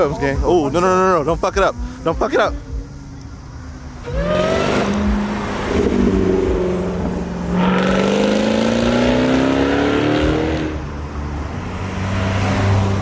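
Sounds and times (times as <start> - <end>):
car engine accelerating: 2.2 - 13.0.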